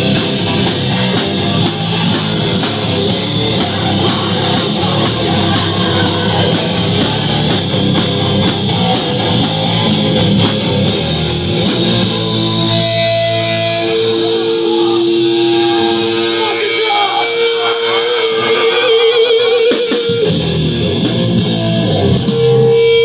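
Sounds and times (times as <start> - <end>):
distorted electric guitars: 0.0 - 23.0
drums: 0.0 - 23.0.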